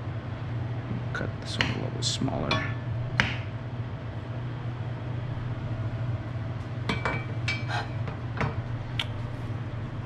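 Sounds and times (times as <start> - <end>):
range hood fan hum: 0.0 - 10.0.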